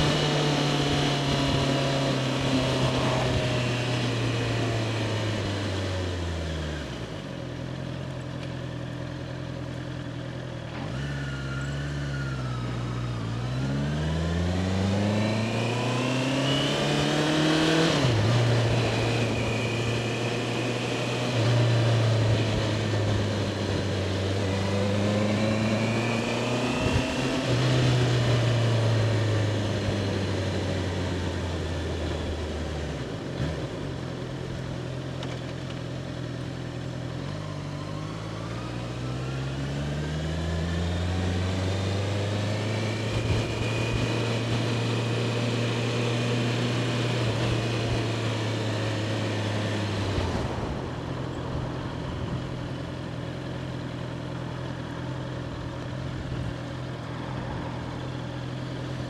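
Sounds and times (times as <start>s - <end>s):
motorcycle engine revving: 0.0s - 7.4s, 10.6s - 35.4s, 36.8s - 59.0s.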